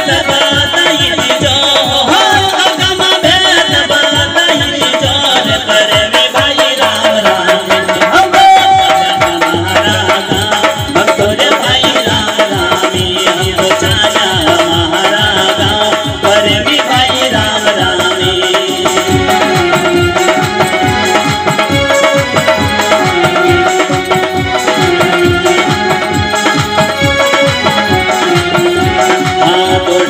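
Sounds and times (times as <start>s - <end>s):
hand drum beat: 0.0s - 30.0s
held melody line: 0.0s - 30.0s.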